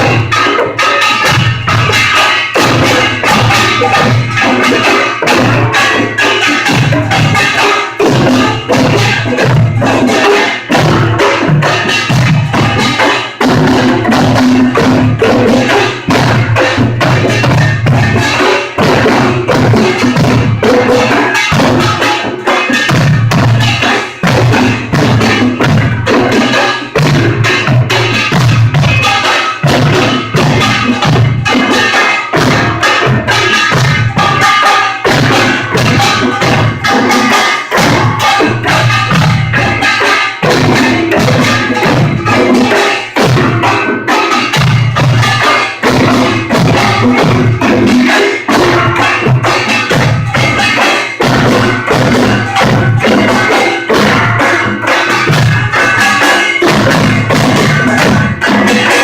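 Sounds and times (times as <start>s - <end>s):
drum beats: 0.0s - 59.0s
small gongs clanging: 0.0s - 59.0s.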